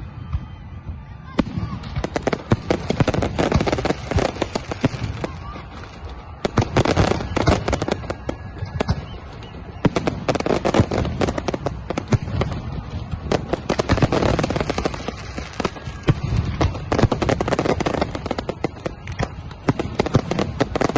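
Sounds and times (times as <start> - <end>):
fireworks banging and crackling: 0.0 - 20.9.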